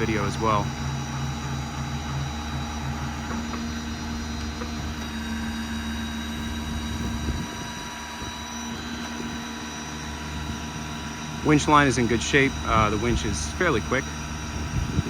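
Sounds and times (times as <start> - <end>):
diesel engine idling: 0.0 - 15.0
hydraulic winch whine: 0.0 - 15.0.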